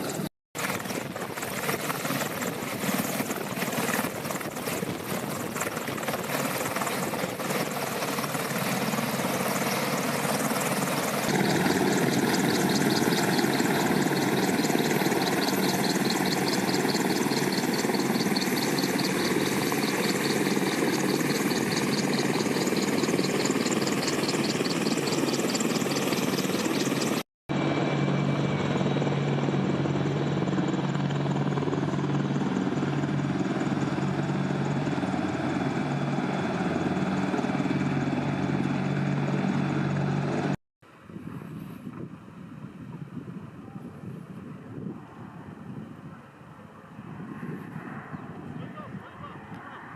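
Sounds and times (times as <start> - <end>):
helicopter turbines and rotors: 0.0 - 41.3.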